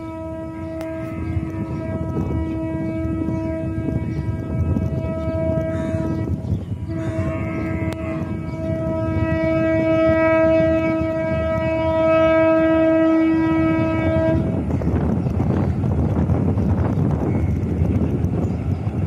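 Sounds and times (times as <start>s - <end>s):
locomotive horn blowing: 0.0s - 15.8s
moving train rumble: 0.0s - 19.0s.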